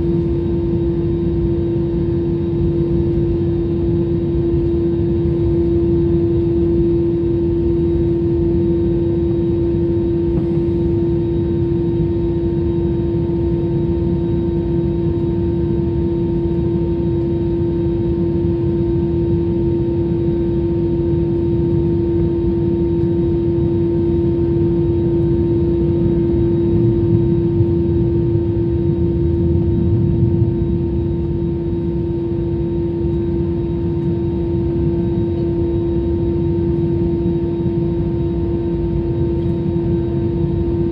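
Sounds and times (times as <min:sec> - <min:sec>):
jet engines humming steadily: 0:00.0 - 0:40.9.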